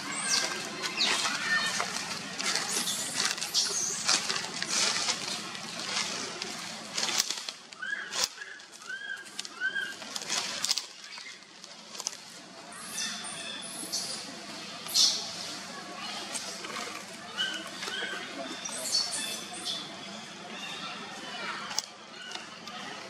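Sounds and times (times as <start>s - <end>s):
rustling branches and leaves: 0.0s - 23.0s.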